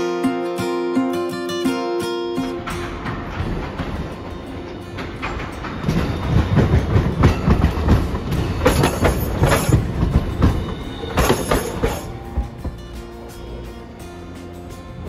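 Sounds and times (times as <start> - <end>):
streetcar wheels clattering over rails: 0.0 - 15.0.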